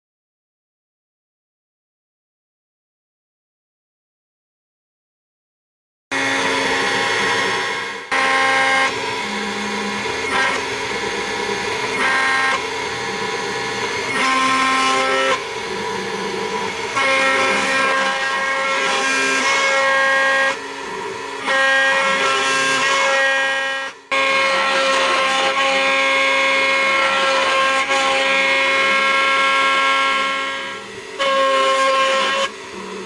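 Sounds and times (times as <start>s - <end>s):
axis motors whining: 6.2s - 33.0s
engraving machine spindle running: 6.2s - 33.0s.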